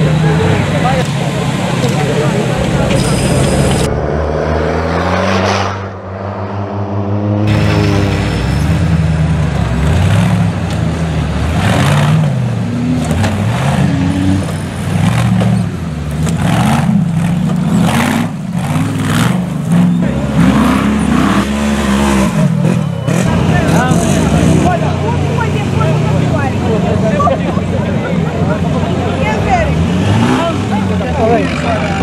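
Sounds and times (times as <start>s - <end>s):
off-road vehicle engines revving: 0.0s - 32.0s.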